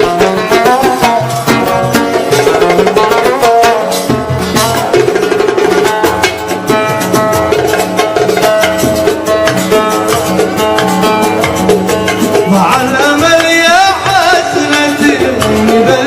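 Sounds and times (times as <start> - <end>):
steady drumbeat: 0.0 - 16.0
sustained instrumental melody: 0.0 - 16.0.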